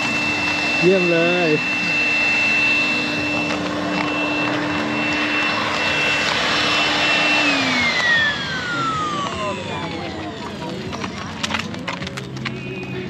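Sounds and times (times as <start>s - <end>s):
low hum: 0.0s - 13.0s
motor whine winding down: 0.0s - 13.0s
noisy background: 0.0s - 13.0s.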